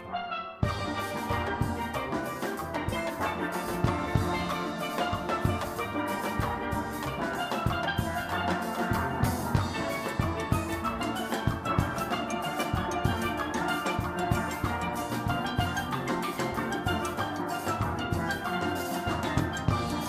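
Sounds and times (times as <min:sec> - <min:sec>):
steelpan band music: 0:00.0 - 0:20.0
drums keeping a steady beat: 0:00.6 - 0:20.0.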